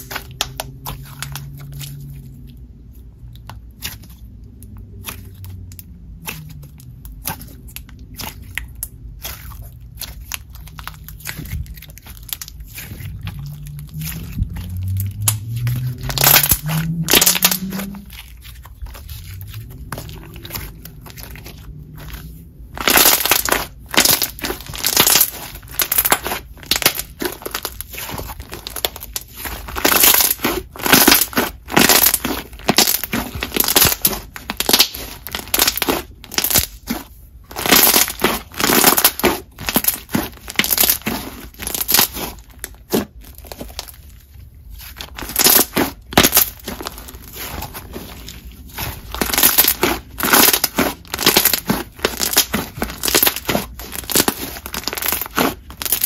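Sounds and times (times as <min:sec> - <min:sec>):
slime squishing and popping: 0:00.0 - 0:56.0.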